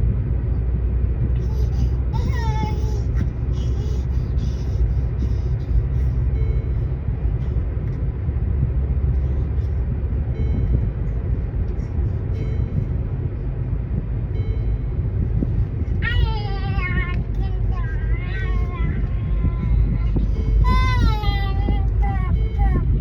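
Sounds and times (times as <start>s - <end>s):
road rumble inside car: 0.0s - 23.0s.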